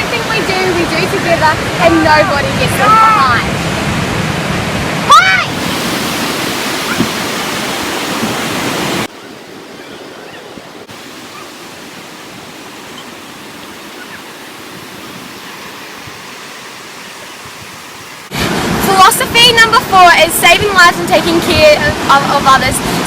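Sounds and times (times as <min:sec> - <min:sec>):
ocean surf: 0:00.0 - 0:23.0
wind: 0:00.0 - 0:23.0.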